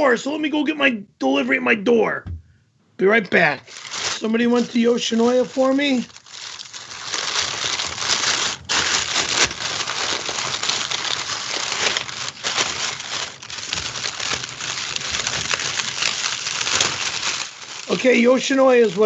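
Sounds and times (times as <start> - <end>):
paper bag crinkling: 3.6 - 19.0.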